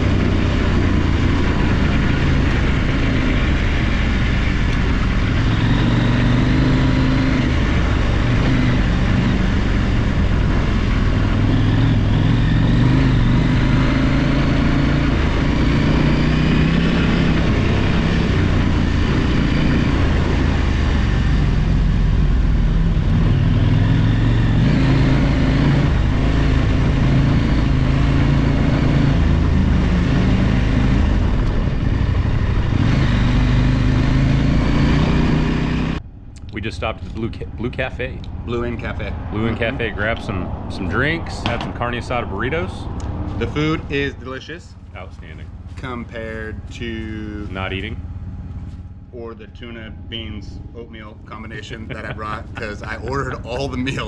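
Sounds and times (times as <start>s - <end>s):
wind and riding noise: 0.0s - 46.8s
motorcycle engine revving: 0.0s - 54.0s.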